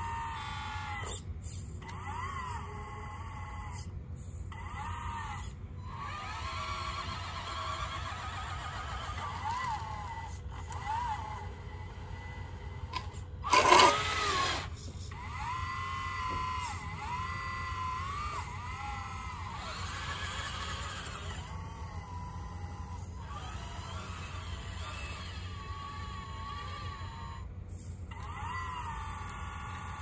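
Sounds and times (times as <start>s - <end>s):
whining electric motors: 0.0s - 30.0s.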